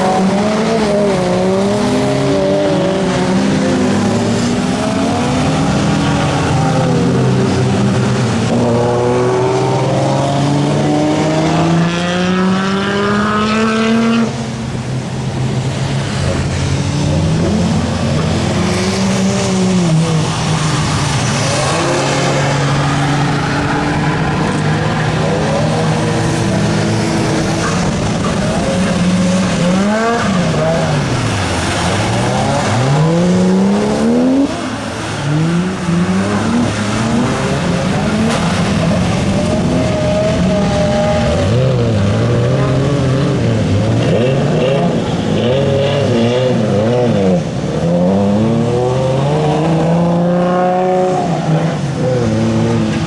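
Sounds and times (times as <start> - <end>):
racing car engines revving: 0.0 - 53.0.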